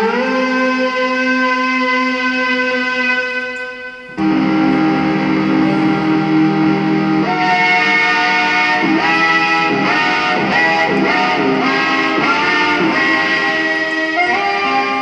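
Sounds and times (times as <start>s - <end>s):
electronic pedal-steel chords: 0.0s - 15.0s.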